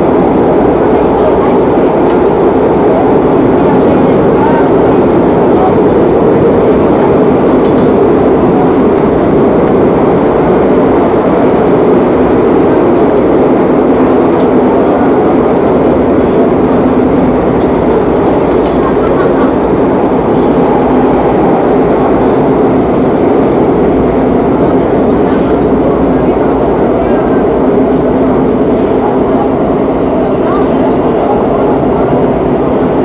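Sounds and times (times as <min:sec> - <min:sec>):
train rumble from inside car: 0:00.0 - 0:33.0.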